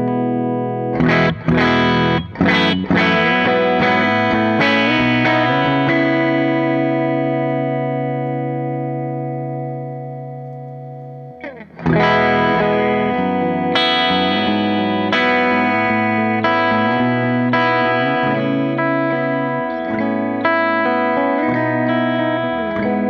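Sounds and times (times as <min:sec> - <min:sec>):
electric guitar chords ringing: 0:00.0 - 0:23.0.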